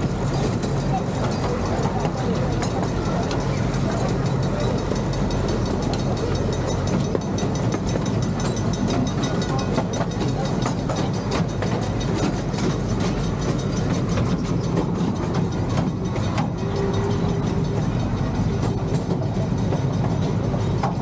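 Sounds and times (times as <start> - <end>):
miniature train rumbling: 0.0 - 21.0
wheels clicking over rails: 0.0 - 21.0.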